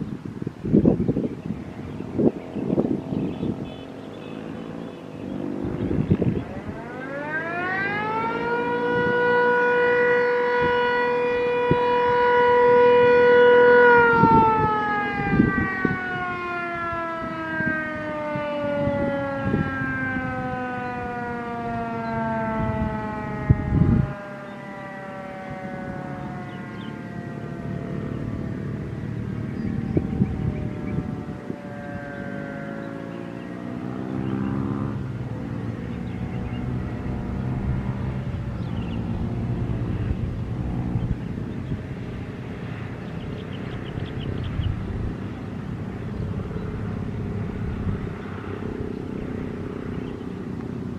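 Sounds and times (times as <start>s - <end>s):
motor-driven siren wailing: 2.0s - 50.9s.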